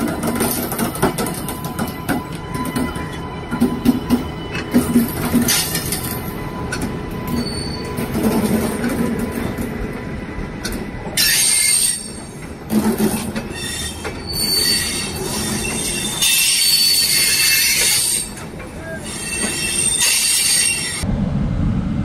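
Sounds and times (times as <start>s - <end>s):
train wheels clicking over rail joints: 0.0s - 10.0s, 10.6s - 20.8s
train wheels squealing: 0.3s - 9.6s, 11.2s - 12.4s, 13.0s - 21.0s.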